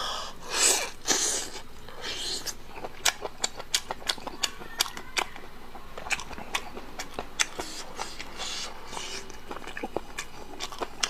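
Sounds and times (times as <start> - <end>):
mouth chewing soft food: 0.0 - 11.0.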